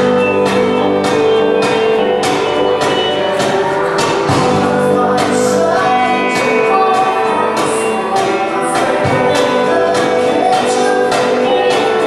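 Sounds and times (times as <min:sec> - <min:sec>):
instruments playing: 0:00.0 - 0:12.0
steady percussive beat: 0:00.0 - 0:12.0
voices singing: 0:00.0 - 0:12.0.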